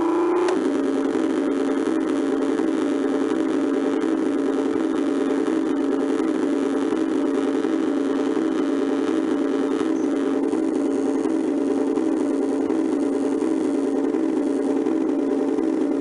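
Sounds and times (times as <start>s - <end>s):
kiddie ride motorbike engine sound: 0.0s - 16.0s.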